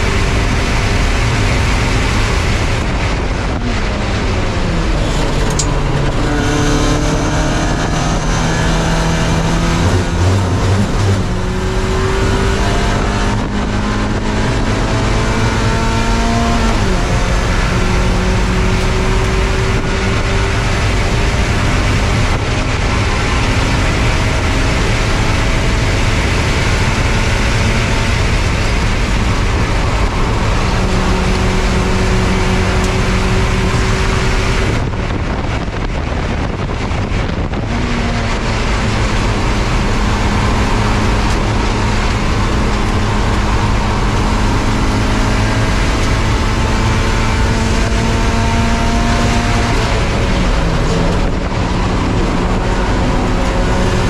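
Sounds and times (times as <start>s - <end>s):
race car engine running hard: 0.0s - 54.0s
steady rush of noise: 0.0s - 54.0s.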